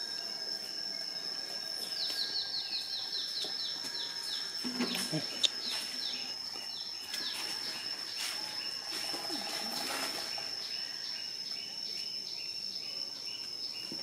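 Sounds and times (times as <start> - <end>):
high-pitched insect drone: 0.0 - 14.0
insect chirps: 0.0 - 14.0.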